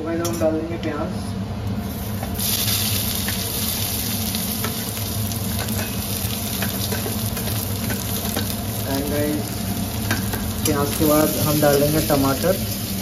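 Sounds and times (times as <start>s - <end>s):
onions sizzling in hot oil: 1.8s - 13.0s.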